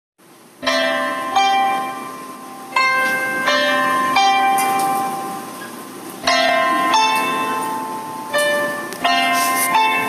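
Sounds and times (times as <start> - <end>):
bell-like struck notes: 0.6 - 10.0.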